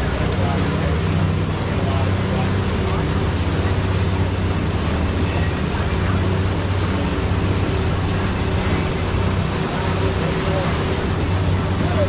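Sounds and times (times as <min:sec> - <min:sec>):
boat engine droning: 0:00.0 - 0:12.0
water noise: 0:00.0 - 0:12.0.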